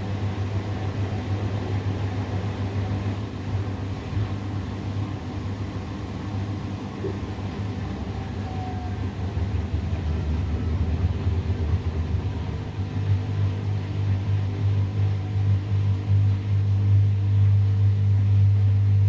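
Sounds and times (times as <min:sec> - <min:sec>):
washing machine spinning: 0:00.0 - 0:17.3.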